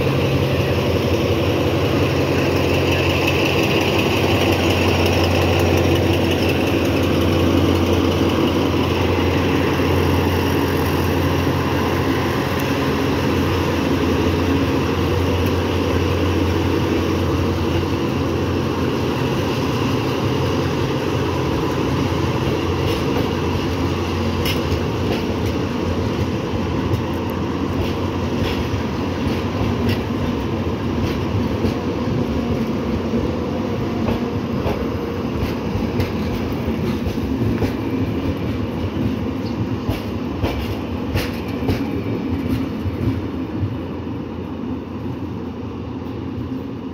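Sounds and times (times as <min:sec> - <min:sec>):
train wheels clicking on rail joints: 0:00.0 - 0:44.1
locomotive engine humming: 0:00.0 - 0:46.9.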